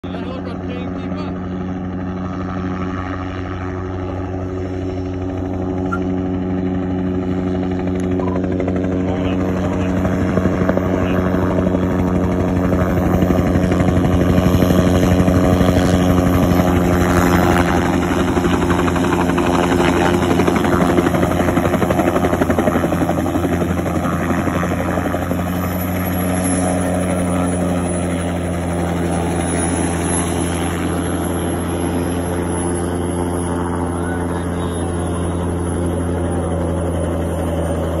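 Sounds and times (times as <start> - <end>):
helicopter rotor: 0.0 - 38.0.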